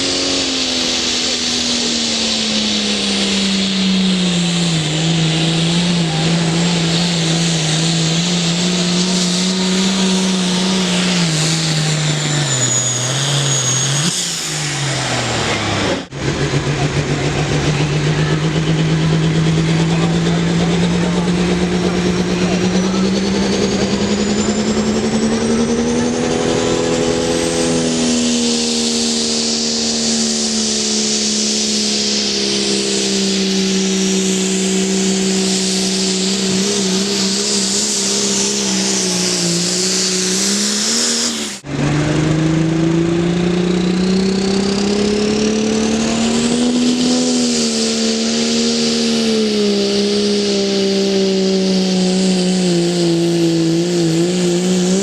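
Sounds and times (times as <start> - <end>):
engine running hard at high revs: 0.0 - 55.0.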